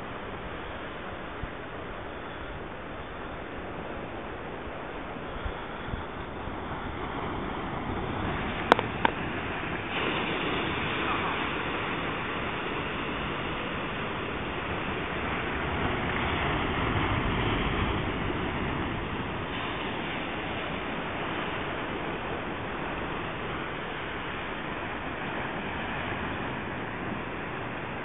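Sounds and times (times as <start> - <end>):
surf washing over rocky shore: 0.0 - 28.0
wave breaking: 0.0 - 28.0.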